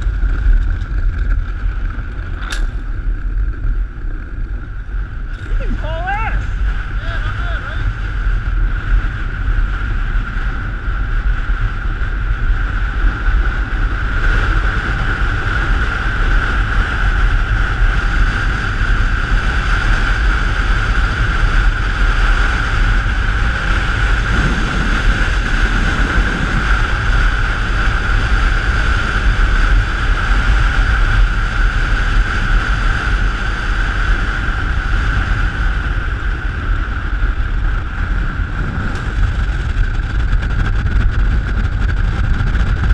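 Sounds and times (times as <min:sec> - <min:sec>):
high whine: 0:00.0 - 0:42.9
runners rumbling on ice: 0:00.0 - 0:42.9
wind on microphone: 0:00.0 - 0:42.9.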